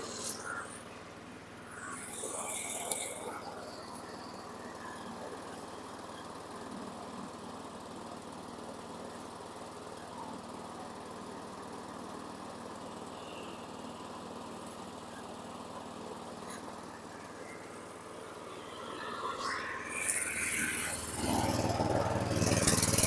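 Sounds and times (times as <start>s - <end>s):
lawn mower engine idling: 3.0s - 18.6s, 19.8s - 23.0s.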